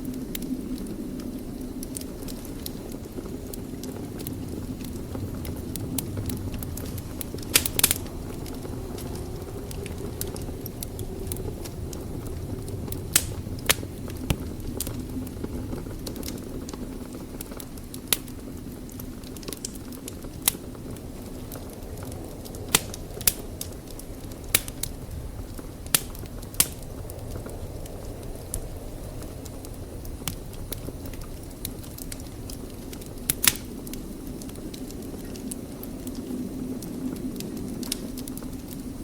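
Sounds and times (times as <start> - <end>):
low rumble of flames: 0.0 - 39.0
wood fire crackling pops: 0.0 - 39.0.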